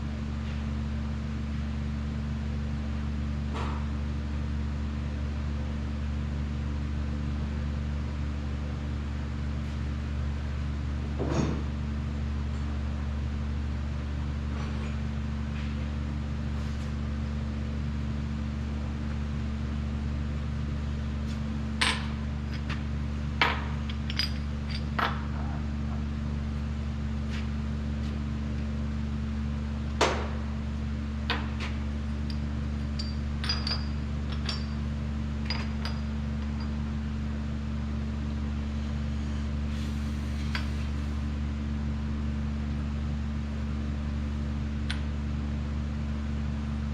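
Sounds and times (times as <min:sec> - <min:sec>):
low machine hum: 0:00.0 - 0:46.9.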